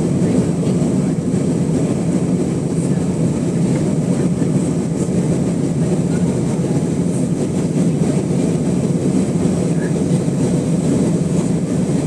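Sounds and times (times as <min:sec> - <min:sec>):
airplane cabin roar: 0:00.0 - 0:12.0
jet engines low rumble: 0:00.0 - 0:12.0.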